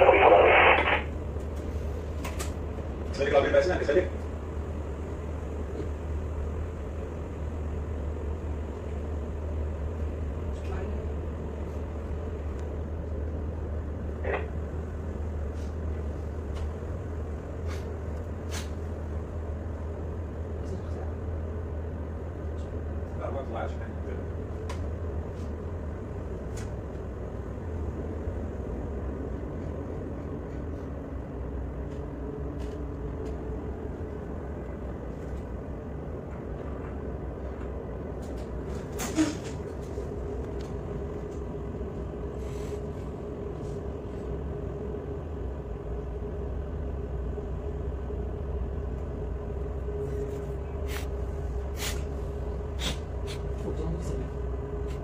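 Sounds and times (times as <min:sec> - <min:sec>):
boat engines droning: 0:00.0 - 0:55.0.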